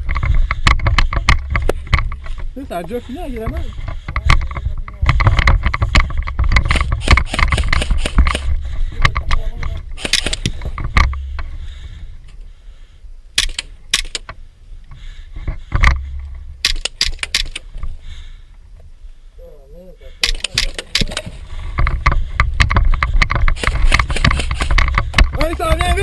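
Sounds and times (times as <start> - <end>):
sharp clicks: 0.0 - 11.5, 13.3 - 15.0, 15.8 - 18.0, 20.2 - 26.0
gear rattling and clicking: 0.0 - 12.4, 13.4 - 14.4, 15.4 - 18.0, 20.2 - 26.0
low rumbling handling noise: 0.0 - 12.6, 13.2 - 19.0, 20.4 - 26.0.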